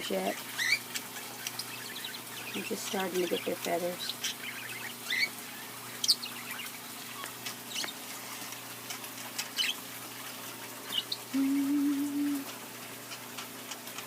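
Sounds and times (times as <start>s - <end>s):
parakeets chirping: 0.0s - 8.1s, 8.8s - 12.5s
low steady hum: 0.0s - 14.0s.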